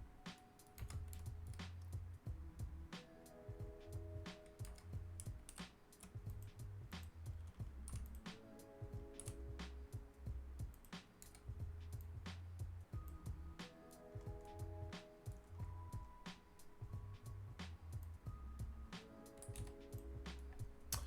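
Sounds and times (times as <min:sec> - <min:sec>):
keyboard keys clicking: 0:00.0 - 0:21.0
quiet background music: 0:00.0 - 0:21.0.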